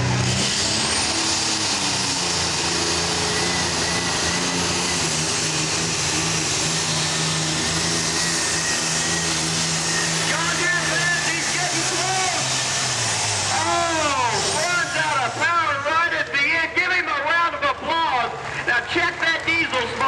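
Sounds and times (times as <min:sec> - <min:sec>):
high turbocharger whine: 0:00.0 - 0:20.0
tractor engine drone: 0:00.0 - 0:20.0.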